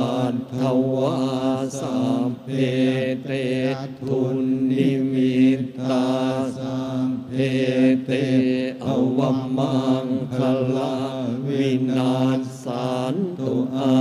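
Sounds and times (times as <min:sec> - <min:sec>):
monks chanting in unison: 0:00.0 - 0:14.0.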